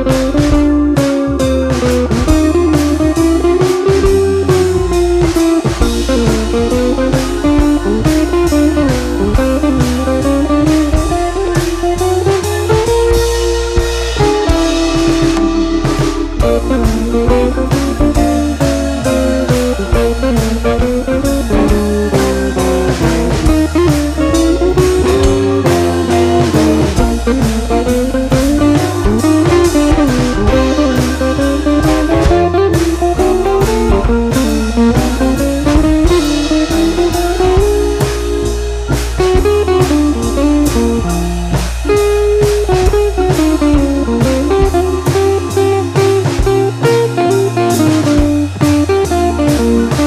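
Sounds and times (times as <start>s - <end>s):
guitar music over drum kit: 0.0s - 50.0s.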